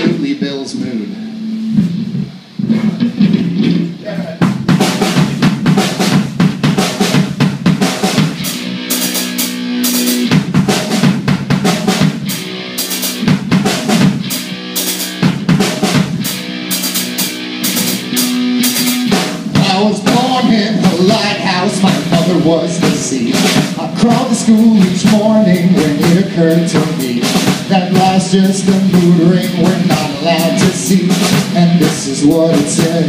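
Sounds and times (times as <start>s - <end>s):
low electric notes: 0.0s - 5.8s, 8.1s - 31.4s
drum kit playing busy beat: 1.3s - 33.0s.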